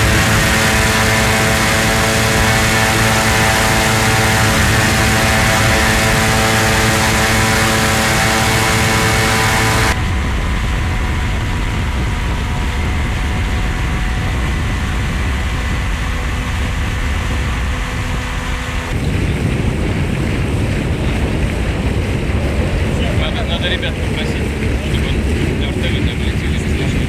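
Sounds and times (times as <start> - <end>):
loud rumbling engine drone: 0.0 - 27.0.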